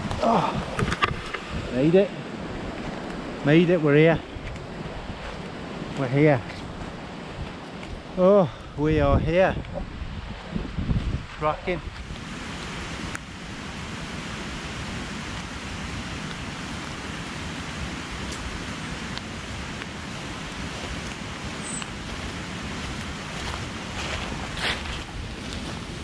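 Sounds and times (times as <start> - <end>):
wind rushing through woodland: 0.0 - 26.0.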